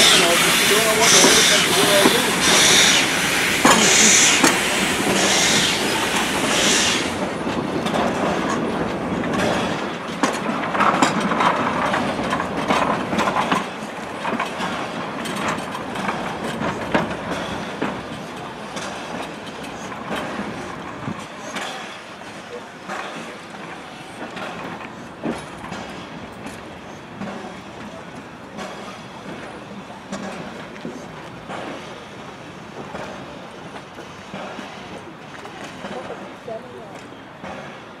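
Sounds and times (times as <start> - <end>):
carriage wheels clanking over rail joints: 0.0 - 6.8, 7.8 - 32.0
steam locomotive exhaust chuffing: 0.0 - 36.2.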